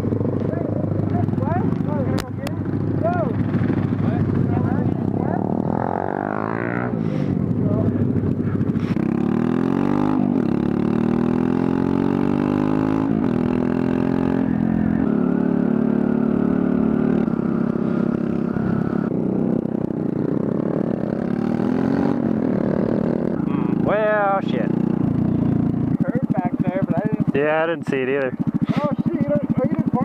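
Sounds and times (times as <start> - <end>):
motorcycle engine revving through gears: 0.0 - 30.0.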